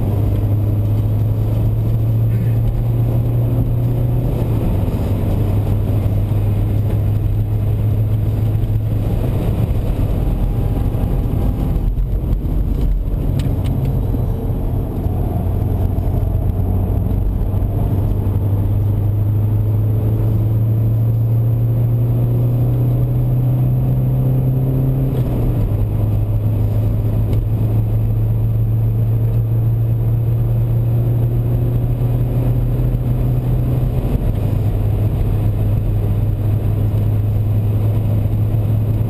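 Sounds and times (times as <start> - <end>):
diesel engine accelerating: 0.0 - 39.0
road and wind noise: 0.0 - 39.0.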